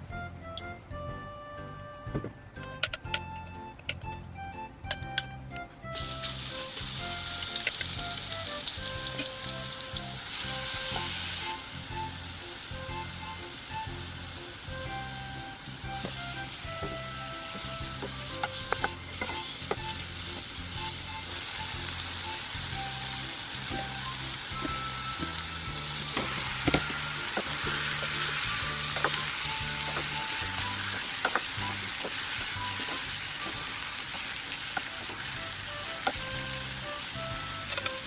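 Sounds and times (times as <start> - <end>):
background music: 0.0 - 38.0
food sizzling in a pot: 6.0 - 38.0.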